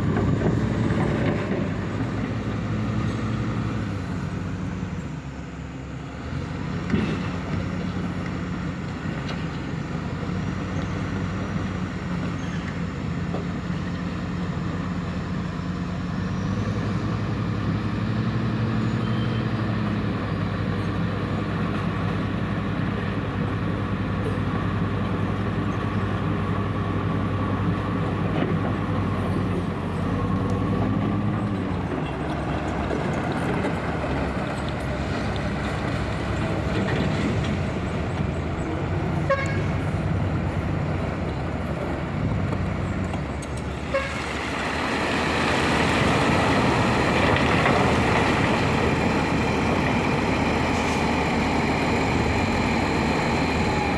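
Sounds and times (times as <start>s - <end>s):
diesel engine revving under load: 0.0s - 53.9s.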